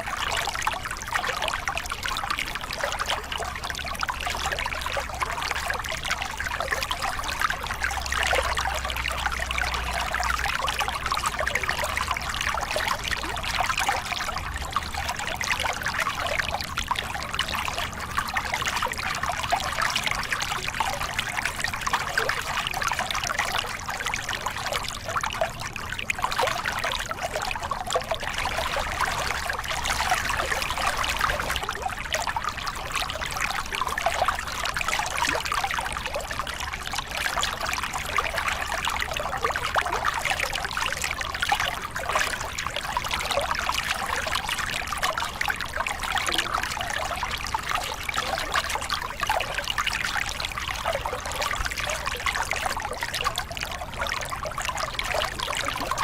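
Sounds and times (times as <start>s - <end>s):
water splashing over rocks: 0.0s - 56.0s.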